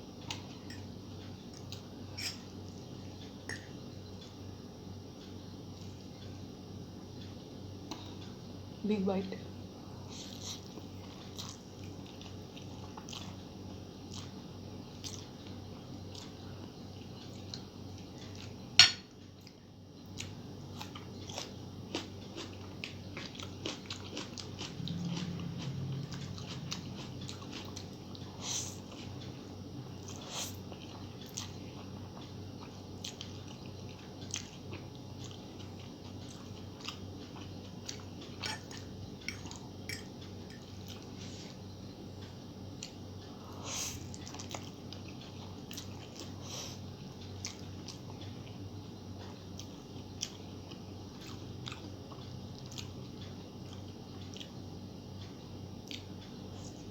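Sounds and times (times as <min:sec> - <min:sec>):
person chewing noodles: 0:10.0 - 0:56.9.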